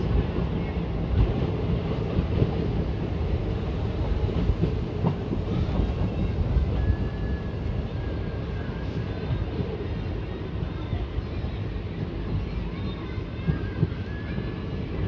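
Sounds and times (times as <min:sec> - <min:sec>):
train coach rumbling on track: 0:00.0 - 0:15.0.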